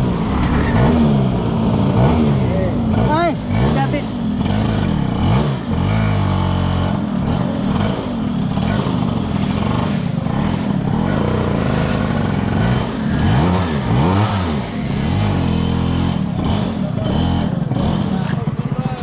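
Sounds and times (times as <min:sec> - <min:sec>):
scooter engine revving: 0:00.0 - 0:19.0.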